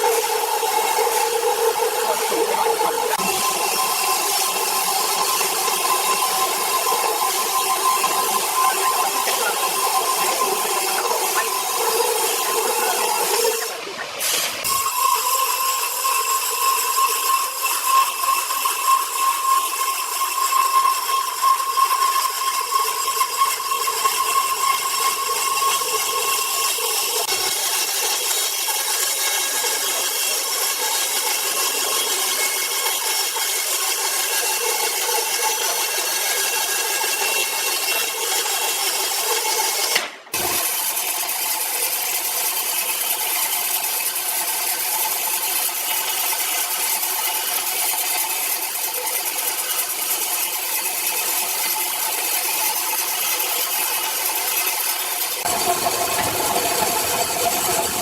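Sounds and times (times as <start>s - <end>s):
power saw cutting wood: 0.0s - 58.0s.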